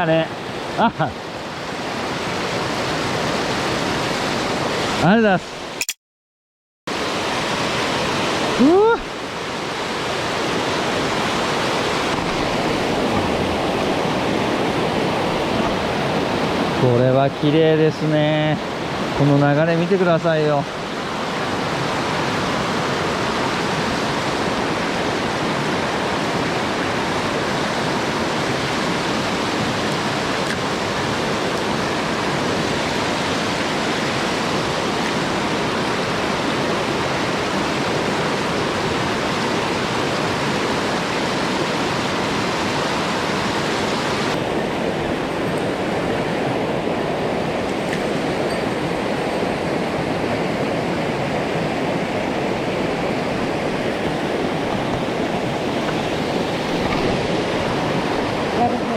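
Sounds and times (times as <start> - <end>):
water rushing over rocks: 6.9 - 58.9.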